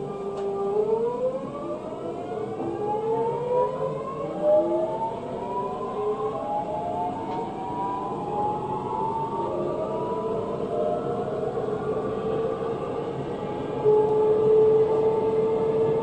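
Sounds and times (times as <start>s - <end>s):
train inverter whine rising: 0.0s - 16.0s.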